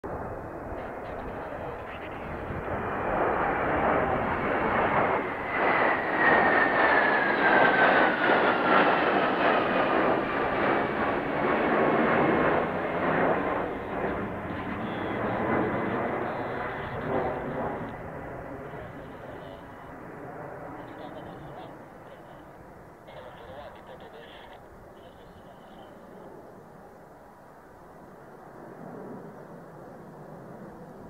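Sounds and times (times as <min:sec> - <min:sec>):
jet fighters passing overhead: 0:00.1 - 0:31.0.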